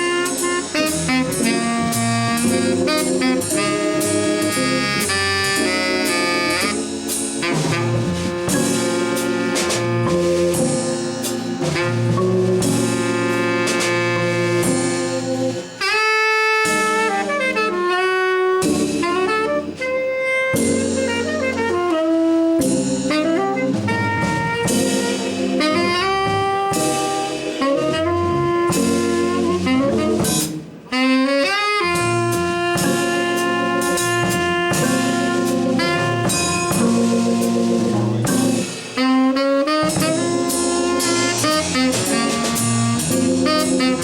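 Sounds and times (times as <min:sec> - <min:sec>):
drums: 0:00.0 - 0:44.0
saxophone melody: 0:00.0 - 0:44.0.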